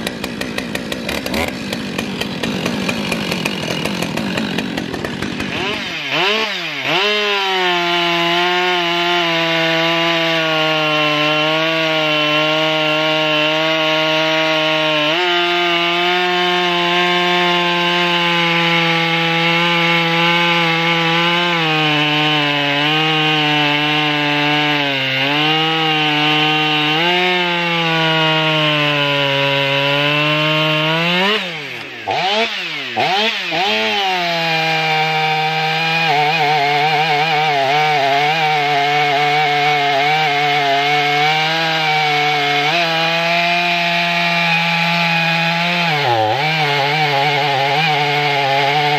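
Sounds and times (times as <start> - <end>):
chainsaw cutting log: 0.0 - 48.9.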